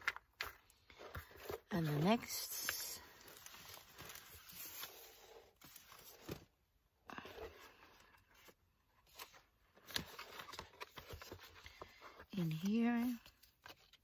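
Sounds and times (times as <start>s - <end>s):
thick paper pages rustling: 0.0s - 6.5s, 7.1s - 14.0s.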